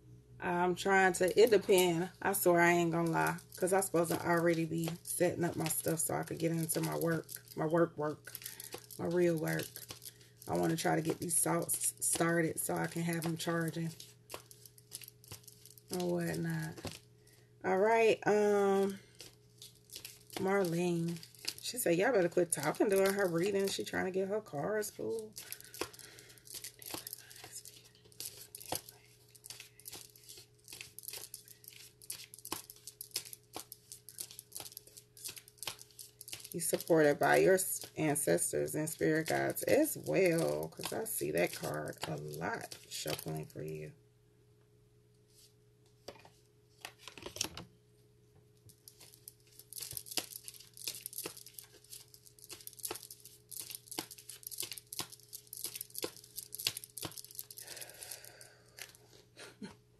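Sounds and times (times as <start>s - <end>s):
cards being shuffled: 1.7s - 17.0s, 18.8s - 24.0s, 24.8s - 43.4s, 45.3s - 47.6s, 48.7s - 58.2s.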